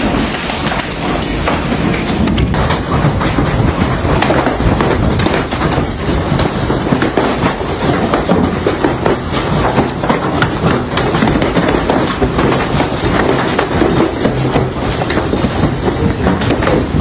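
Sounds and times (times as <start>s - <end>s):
hail clattering on hard surfaces: 0.0s - 17.0s.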